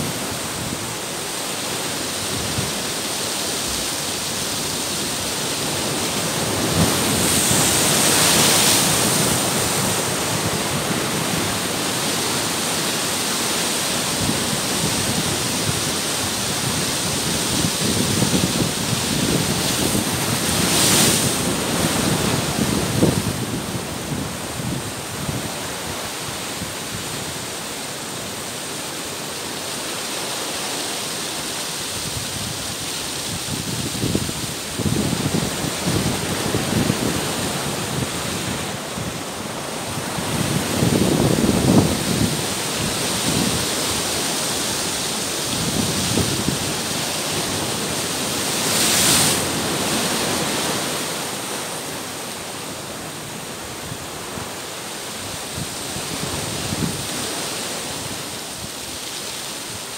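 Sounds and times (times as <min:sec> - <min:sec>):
surf washing over rocks: 0:00.0 - 0:59.9.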